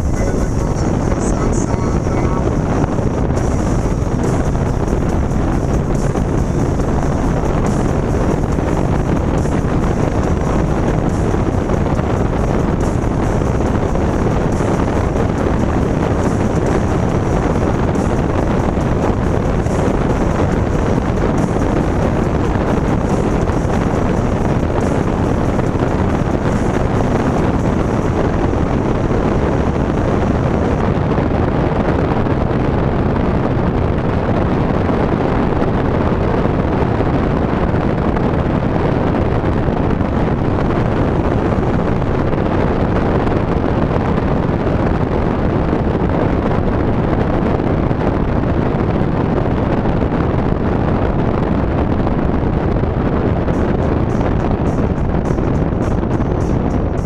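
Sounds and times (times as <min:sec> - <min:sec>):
wind roaring through car window: 0:00.0 - 0:57.0.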